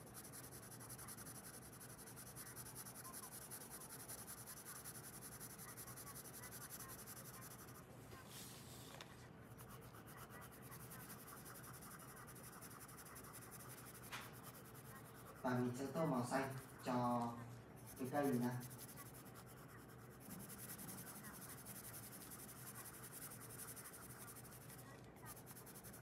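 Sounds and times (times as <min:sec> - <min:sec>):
pencil scratching on paper: 0:00.0 - 0:26.0.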